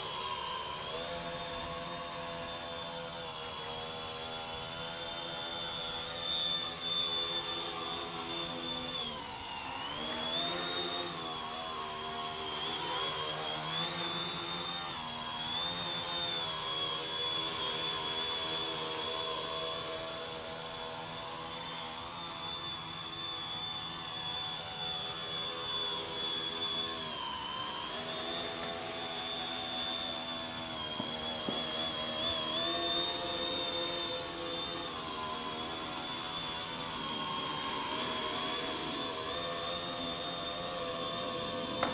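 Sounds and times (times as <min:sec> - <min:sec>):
drone motors and propellers whining: 0:00.0 - 0:41.9.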